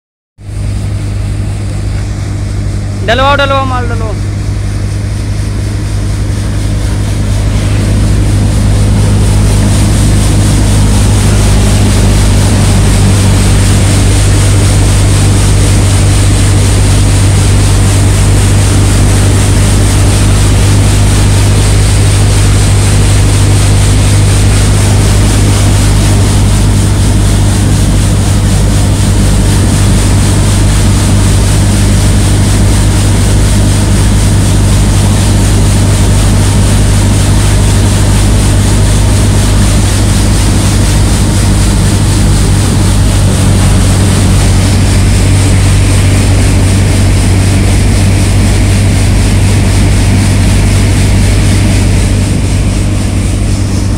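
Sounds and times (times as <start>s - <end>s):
thresher mechanical drone: 0.4s - 53.9s.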